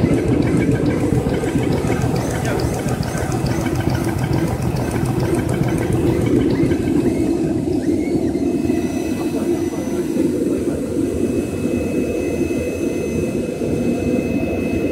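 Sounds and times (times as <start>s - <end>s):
machine mechanical din: 0.0s - 14.9s.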